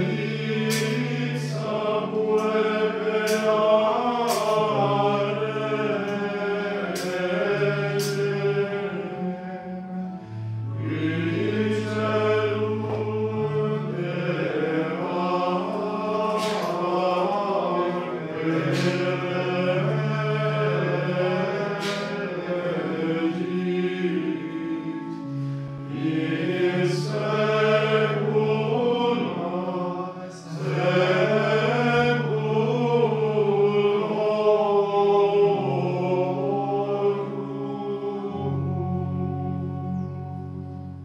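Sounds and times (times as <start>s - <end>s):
choir chanting a hymn: 0.0s - 41.0s.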